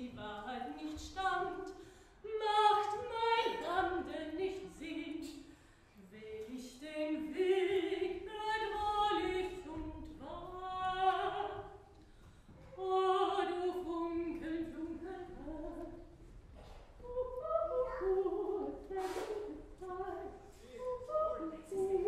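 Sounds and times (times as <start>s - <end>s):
woman singing with vibrato: 0.0s - 11.9s, 12.7s - 16.1s, 17.0s - 22.0s.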